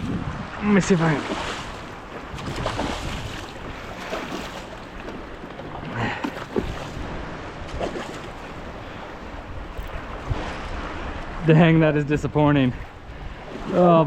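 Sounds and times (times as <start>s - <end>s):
water lapping around boat: 0.0s - 14.0s
wind on microphone: 0.0s - 14.0s.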